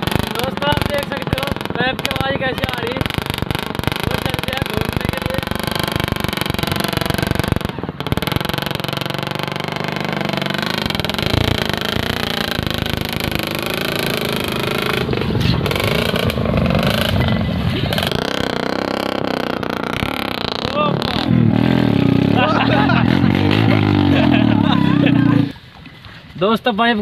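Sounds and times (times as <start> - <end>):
motorcycle engine with long exhaust pipe: 0.0 - 26.3.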